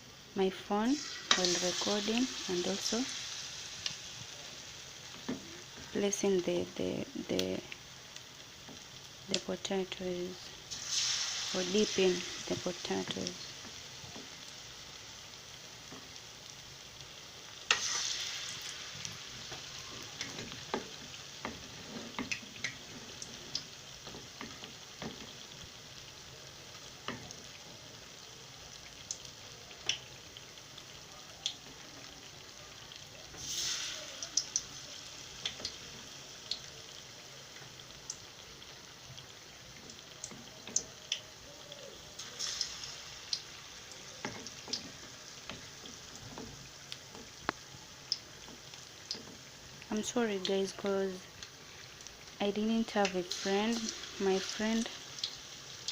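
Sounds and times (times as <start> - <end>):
potatoes deep-frying in oil: 0.0 - 55.9
oil popping and crackling: 0.9 - 55.9.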